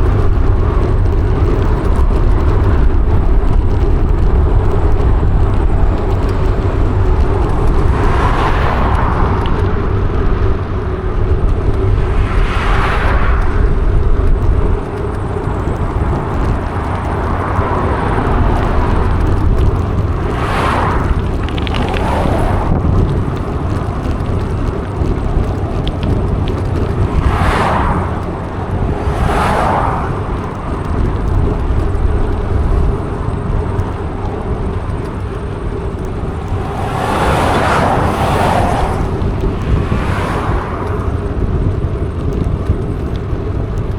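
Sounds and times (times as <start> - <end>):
vehicles whooshing past: 0.0 - 43.9
wind rumbling on microphone: 0.0 - 43.9.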